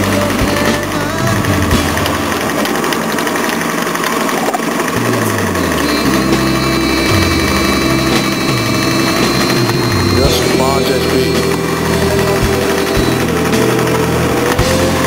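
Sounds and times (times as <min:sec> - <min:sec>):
brick making machine drone: 0:00.0 - 0:15.0.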